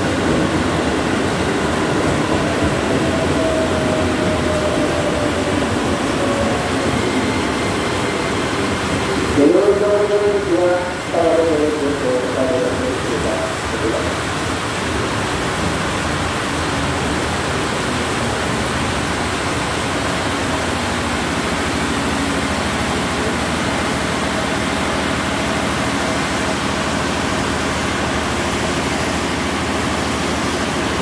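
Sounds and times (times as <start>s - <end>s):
electric train running: 0.0s - 31.0s
heavy rain pouring: 0.0s - 31.0s.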